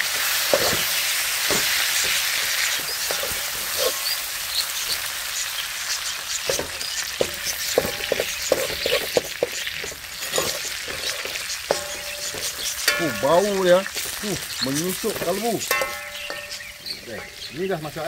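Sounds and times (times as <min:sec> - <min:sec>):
chicken sizzling in oil: 0:00.0 - 0:18.0
metal skimmer scraping a wok: 0:00.0 - 0:18.0.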